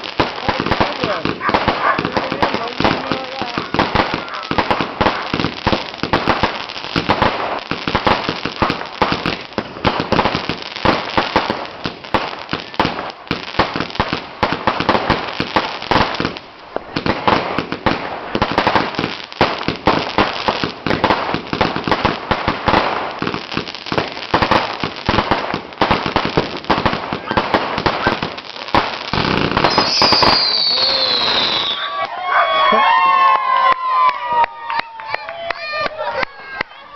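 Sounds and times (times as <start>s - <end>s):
fireworks cracking and banging: 0.0s - 36.9s.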